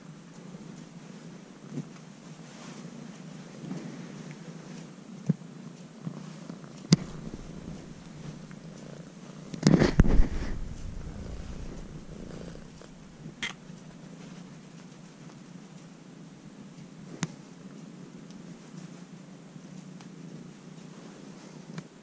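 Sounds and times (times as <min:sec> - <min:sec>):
kitten purring: 0:00.4 - 0:15.4, 0:17.0 - 0:22.0.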